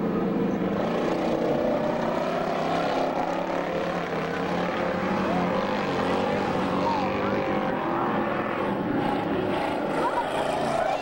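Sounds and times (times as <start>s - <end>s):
race car engines running: 0.0s - 11.0s.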